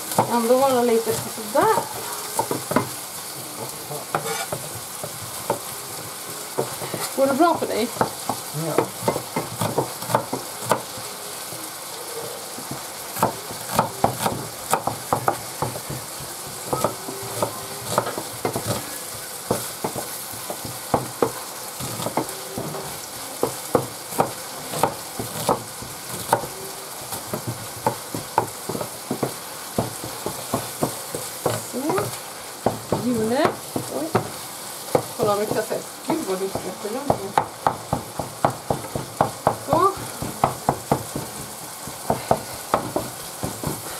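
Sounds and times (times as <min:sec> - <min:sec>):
meat sizzling in a pan: 0:00.0 - 0:43.9.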